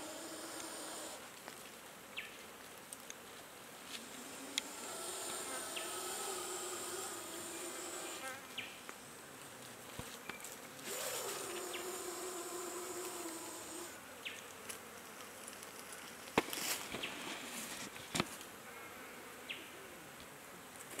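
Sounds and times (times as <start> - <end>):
flying insect buzzing: 0.0 - 19.9.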